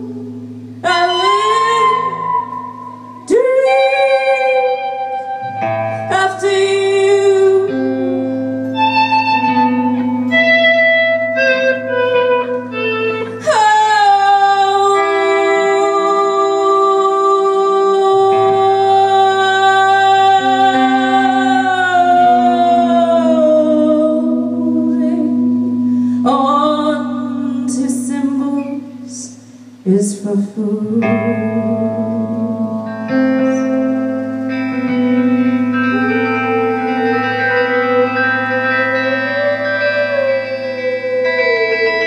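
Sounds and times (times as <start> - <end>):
droning electric guitar: 0.0 - 42.0.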